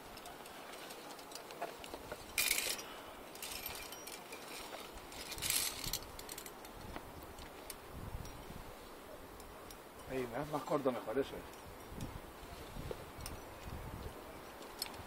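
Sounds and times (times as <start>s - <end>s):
metal climbing gear clinking: 0.0s - 8.6s, 9.3s - 15.0s.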